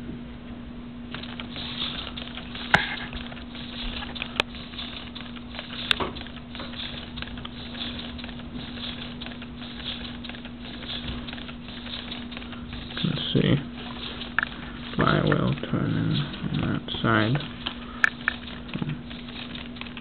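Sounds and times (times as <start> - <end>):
pneumatic engine puffing and clicking: 1.1 - 20.0.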